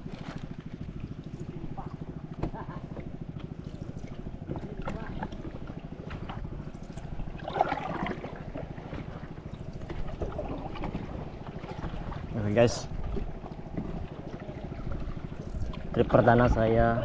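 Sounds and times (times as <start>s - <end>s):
low steady rumble: 0.0s - 17.0s
paddle pulling through water: 0.0s - 17.0s.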